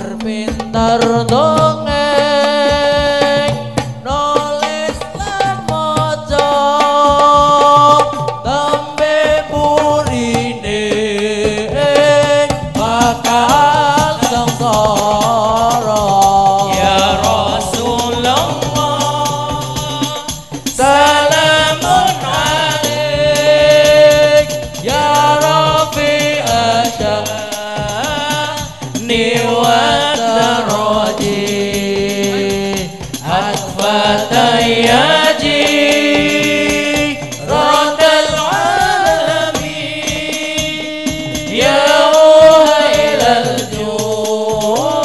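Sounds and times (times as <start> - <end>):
frame drums beating: 0.0 - 45.0
person singing into microphone: 0.0 - 45.0.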